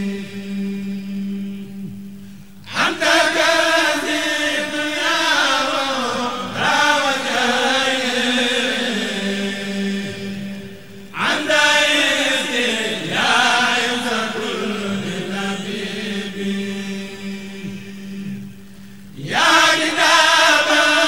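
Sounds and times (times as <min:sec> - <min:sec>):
group chanting in unison: 0:02.7 - 0:18.5, 0:19.2 - 0:21.0.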